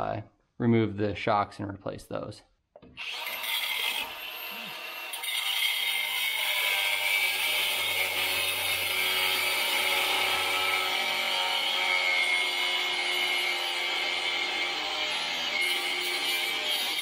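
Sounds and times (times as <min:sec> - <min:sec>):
power tool cutting metal: 0:03.0 - 0:17.0.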